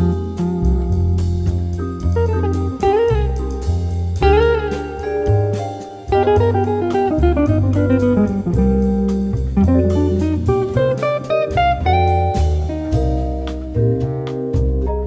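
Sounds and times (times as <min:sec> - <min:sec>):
bass line: 0:00.0 - 0:15.0
drum hits: 0:00.0 - 0:15.0
plucked guitar melody: 0:00.0 - 0:15.0.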